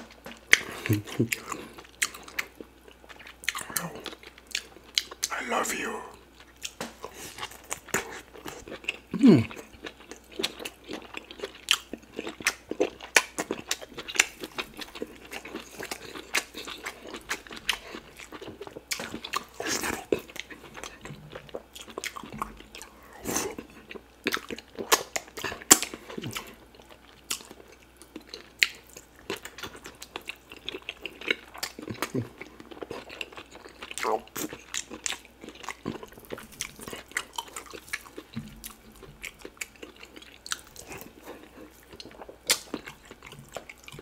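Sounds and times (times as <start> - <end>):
wet chewing and lip-smacking: 0.0 - 44.0.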